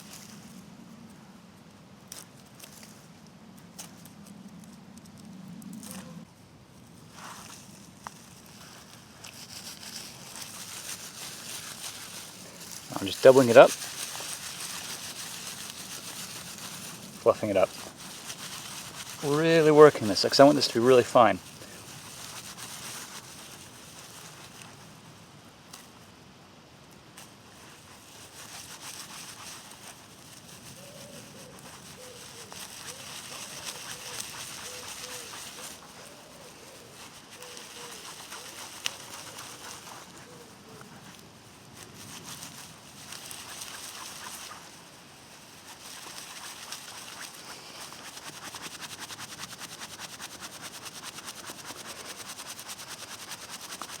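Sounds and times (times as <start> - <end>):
dry bark rustling and scratching: 2.1 - 6.2, 6.9 - 25.1, 27.2 - 54.0.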